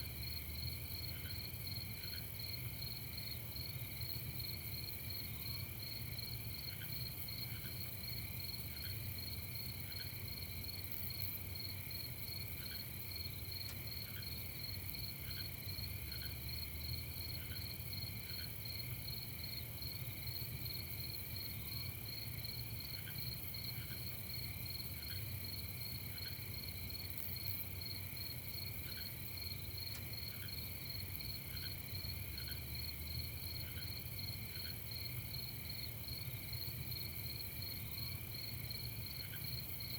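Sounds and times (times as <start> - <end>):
crickets chirping: 0.0 - 39.9
single cricket chirps: 0.0 - 39.9.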